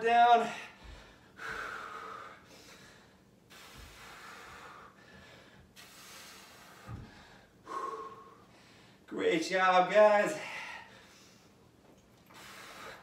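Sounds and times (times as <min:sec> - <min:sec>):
man breathing hard: 0:00.4 - 0:09.1, 0:10.3 - 0:11.6, 0:12.2 - 0:13.0.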